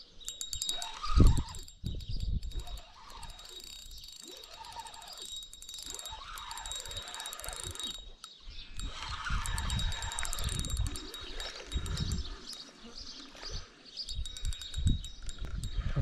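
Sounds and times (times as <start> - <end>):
fishing reel fast ticking: 0.0 - 16.0.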